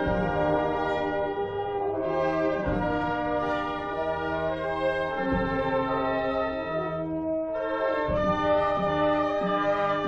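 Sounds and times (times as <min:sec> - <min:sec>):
brass band playing funeral music: 0:00.0 - 0:10.0.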